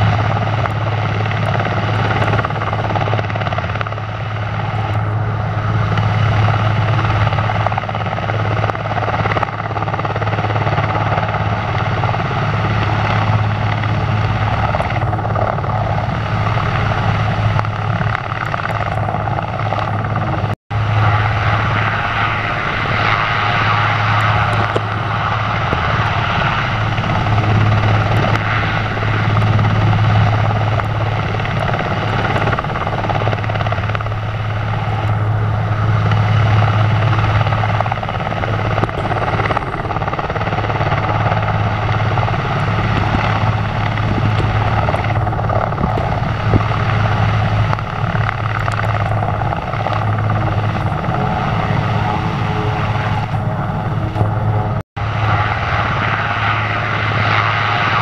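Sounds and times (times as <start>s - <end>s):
helicopter hovering: 0.0s - 58.0s.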